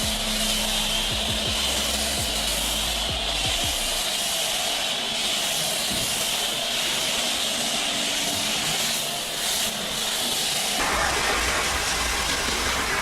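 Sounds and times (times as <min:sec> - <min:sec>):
pressure washer water spray: 0:00.0 - 0:13.0.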